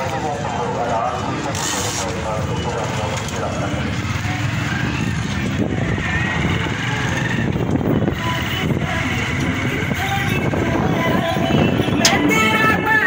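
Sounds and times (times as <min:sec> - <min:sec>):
cars: 0:00.0 - 0:13.0
motorcycles: 0:00.0 - 0:13.0.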